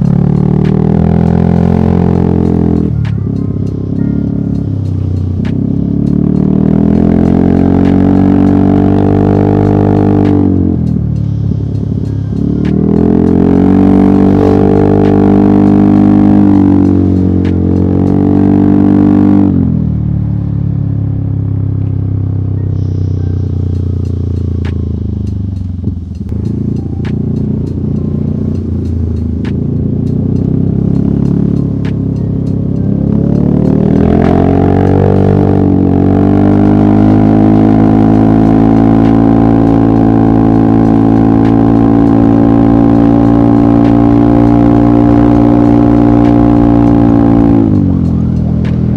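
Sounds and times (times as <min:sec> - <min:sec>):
scooter engine running: 0:00.0 - 0:48.9.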